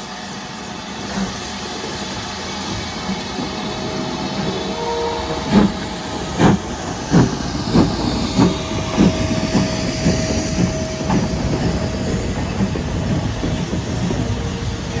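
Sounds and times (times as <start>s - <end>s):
steam hissing: 0.0s - 15.0s
steam locomotive exhaust chuffs: 0.0s - 15.0s
train rumbling on rails: 0.0s - 15.0s.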